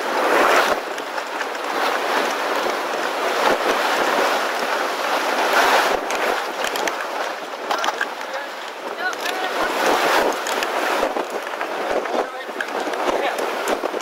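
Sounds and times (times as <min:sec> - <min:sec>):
wind gusting over microphone: 0:00.0 - 0:14.0.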